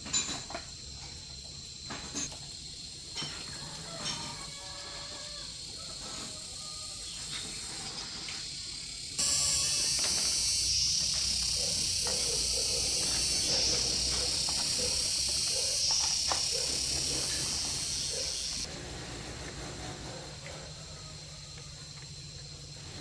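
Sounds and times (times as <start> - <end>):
insect chirps and clicks: 0.0 - 23.0
insects shrilling: 0.0 - 23.0.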